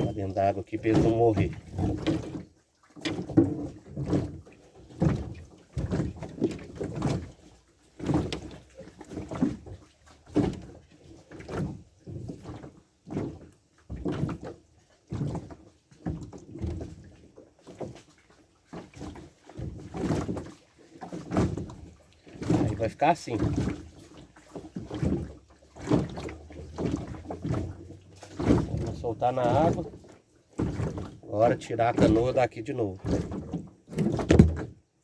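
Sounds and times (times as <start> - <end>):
water slapping against canoe hull: 0.0 - 35.0.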